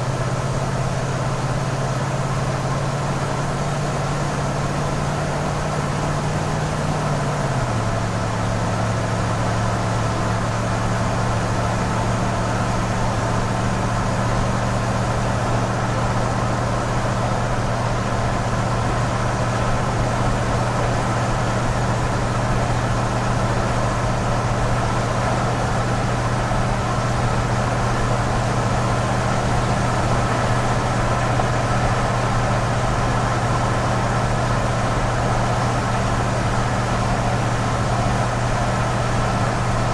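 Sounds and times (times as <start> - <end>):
van engine idling: 0.0 - 39.9.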